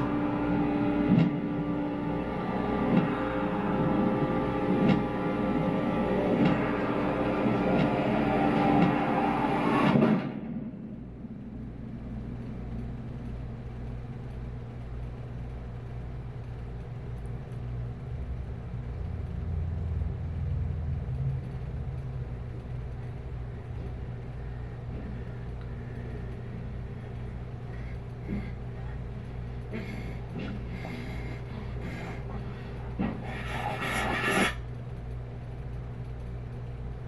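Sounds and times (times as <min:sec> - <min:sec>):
low rumbling drone: 0:00.0 - 0:37.0.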